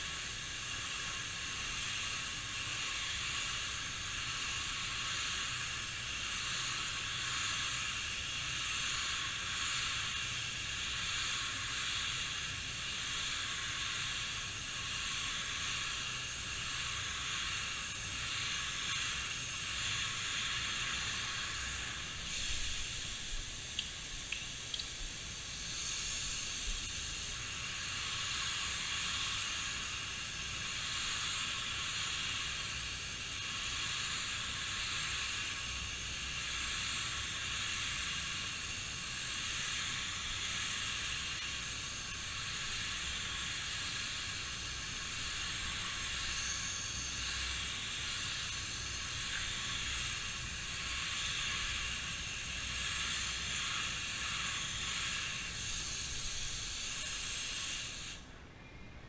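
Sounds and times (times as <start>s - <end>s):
spray gun hissing: 0.0s - 58.3s.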